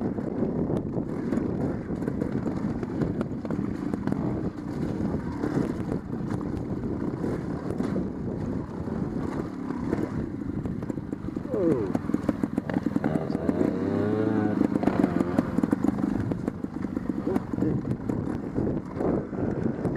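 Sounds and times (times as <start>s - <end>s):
motorcycle engine running: 0.0s - 19.9s
motorcycle knocks and rattles: 0.0s - 19.9s.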